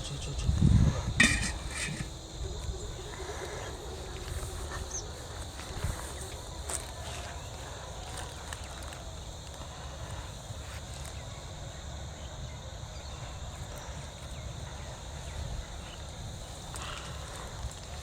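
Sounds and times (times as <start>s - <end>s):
high insect calls: 0.0s - 18.0s.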